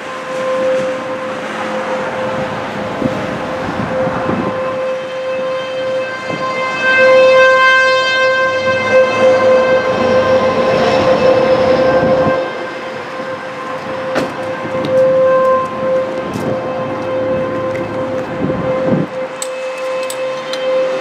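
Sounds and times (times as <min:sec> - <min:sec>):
warning siren wailing: 0:00.0 - 0:21.0.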